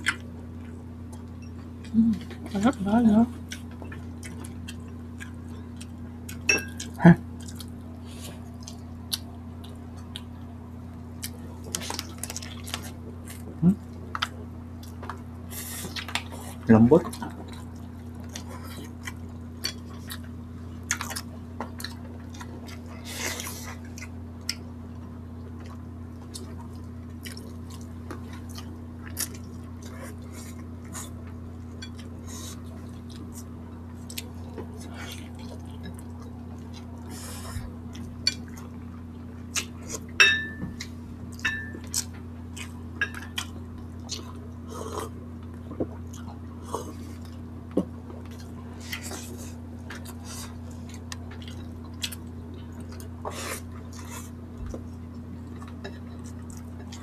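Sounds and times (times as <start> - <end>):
chewing and lip smacking: 3.4 - 10.5, 11.2 - 40.1, 40.8 - 57.0.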